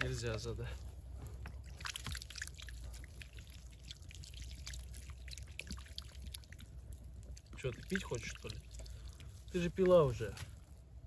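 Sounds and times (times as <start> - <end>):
water splashing over hands: 1.4 - 10.3.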